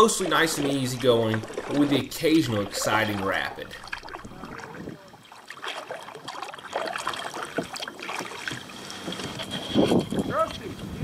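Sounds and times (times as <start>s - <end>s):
water splashes and drips: 0.0s - 10.2s
paddle dipping into water: 0.0s - 11.0s.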